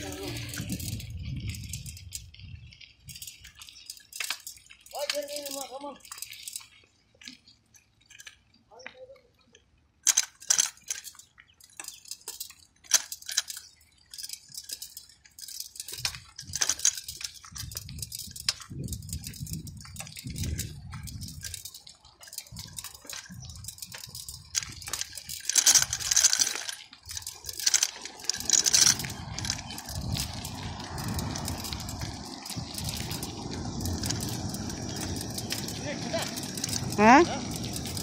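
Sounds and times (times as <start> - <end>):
traffic hum: 0.0 - 38.0.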